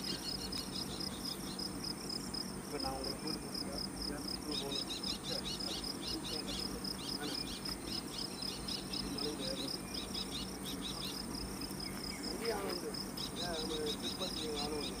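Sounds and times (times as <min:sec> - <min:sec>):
cricket-like chirping: 0:00.0 - 0:15.0.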